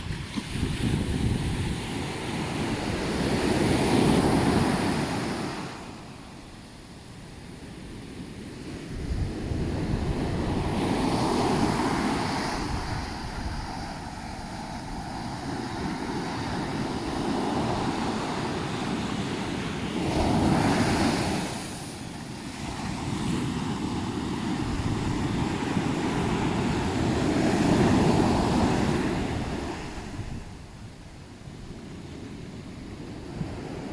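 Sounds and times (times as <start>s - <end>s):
ocean waves breaking on beach: 0.0s - 33.9s.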